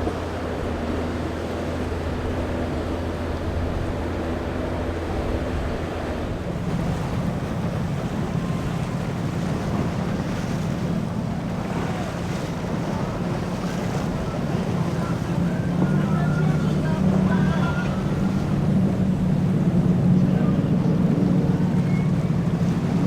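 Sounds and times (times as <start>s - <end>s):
boat engine humming: 0.0s - 23.0s
waves washing: 0.0s - 23.0s
wind buffeting microphone: 0.0s - 23.0s.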